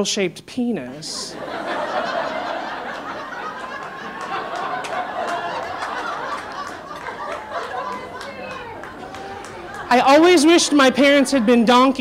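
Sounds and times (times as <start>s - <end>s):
audience laughing: 1.1s - 12.0s.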